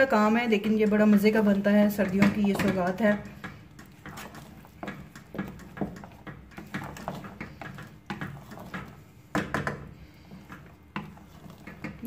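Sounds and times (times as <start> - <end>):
spoon scraping and knocking pot: 0.6 - 12.0.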